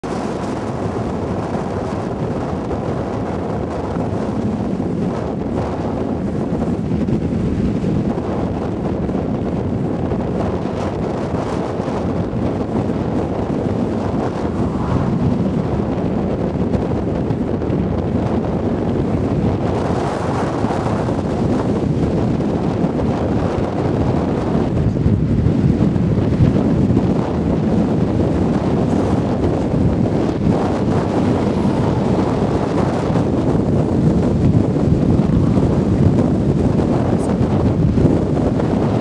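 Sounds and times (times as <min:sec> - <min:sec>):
strong wind buffeting microphone: 0:00.0 - 0:39.0.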